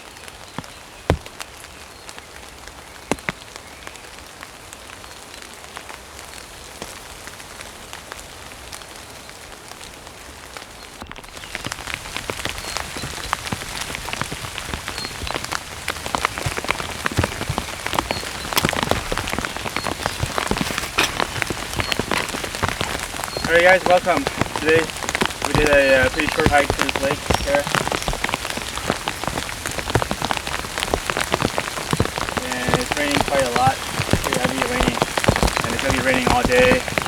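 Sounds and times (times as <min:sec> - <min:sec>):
heavy rain falling: 0:04.2 - 0:37.0.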